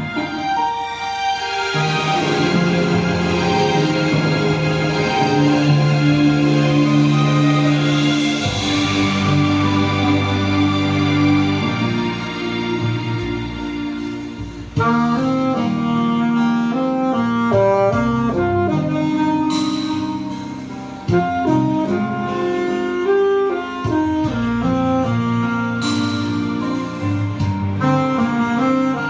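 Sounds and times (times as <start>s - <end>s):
saxophone melody: 0.0s - 29.0s
sustained backing accompaniment: 0.0s - 29.0s.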